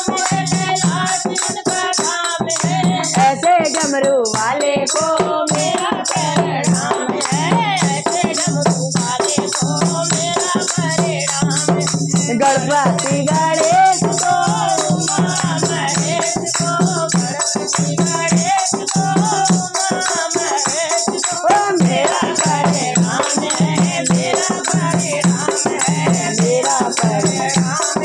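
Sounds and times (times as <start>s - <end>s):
boy singing: 0.0s - 28.0s
hand drum: 0.0s - 28.0s
women singing: 0.0s - 28.0s.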